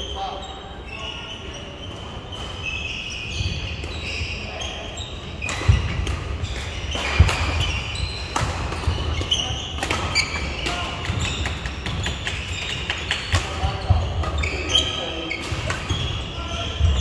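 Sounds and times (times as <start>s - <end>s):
court shoes squeaking on floor: 0.0s - 17.0s.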